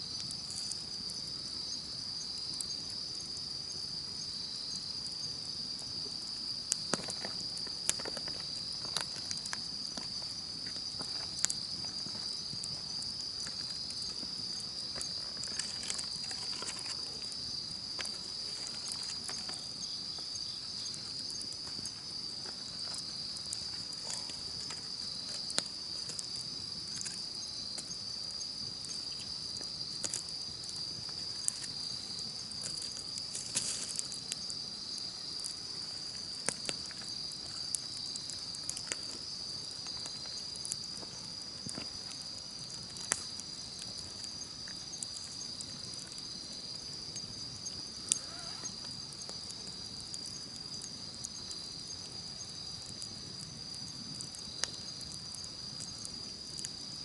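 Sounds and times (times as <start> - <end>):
campfire crackling: 0.0 - 57.0
insects trilling: 0.0 - 57.0.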